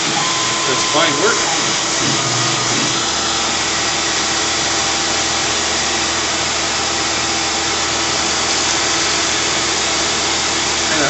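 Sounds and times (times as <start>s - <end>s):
mill cutting plastic: 0.0s - 11.0s
vacuum hose rushing: 0.0s - 11.0s.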